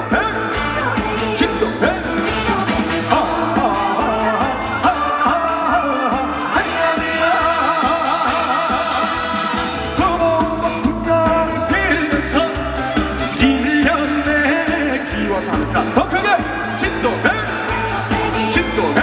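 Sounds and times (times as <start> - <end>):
amplified band backing track: 0.0 - 19.0
person singing live: 0.0 - 19.0.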